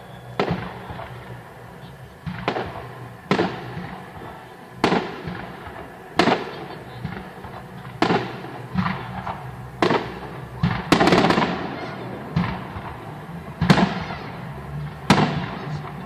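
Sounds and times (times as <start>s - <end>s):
firework shell bursts echoing: 0.0s - 16.0s
firework pops and crackles: 0.3s - 16.0s.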